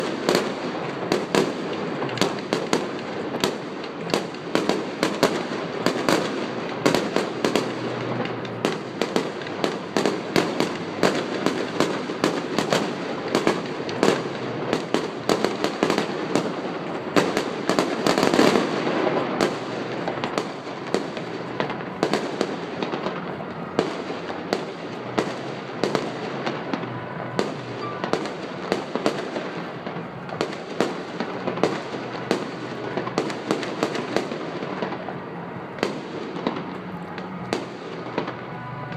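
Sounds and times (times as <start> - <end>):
fireworks bangs and cracks: 0.0 - 38.9
fireworks crackling: 0.0 - 38.9.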